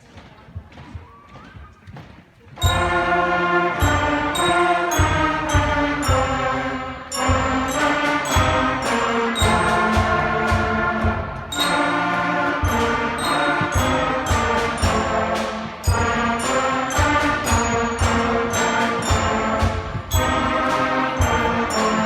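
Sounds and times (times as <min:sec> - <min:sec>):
bass drum strokes: 0:02.6 - 0:11.7, 0:12.4 - 0:22.0
concert band playing a march: 0:02.6 - 0:22.0
glockenspiel: 0:02.6 - 0:22.0.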